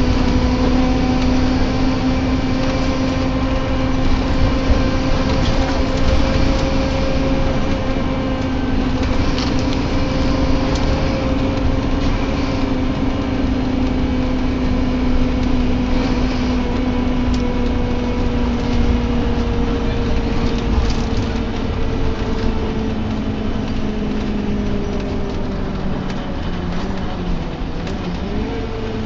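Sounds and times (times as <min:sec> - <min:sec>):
bus engine and road rumble: 0:00.0 - 0:29.0
groaning drone: 0:00.0 - 0:29.0.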